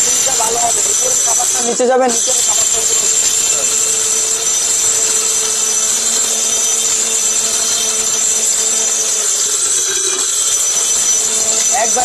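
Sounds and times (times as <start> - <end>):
electric grinder running: 0.0 - 12.0.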